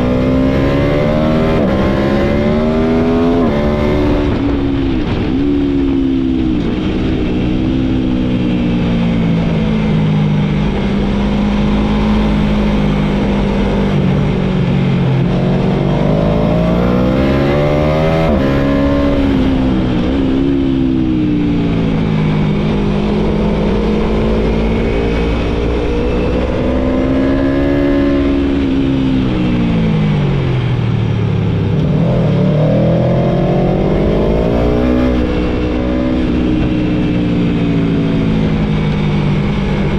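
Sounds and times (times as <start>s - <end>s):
motorcycle engine accelerating: 0.0s - 39.9s
wind rush: 0.0s - 39.9s.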